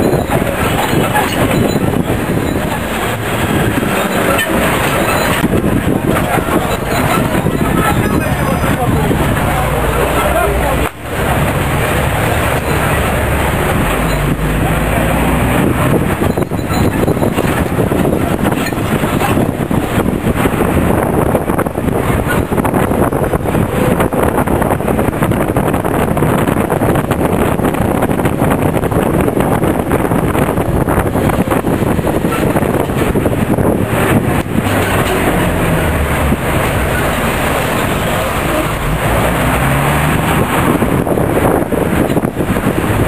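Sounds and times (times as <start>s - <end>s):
vehicle engine and road noise: 0.0s - 43.0s.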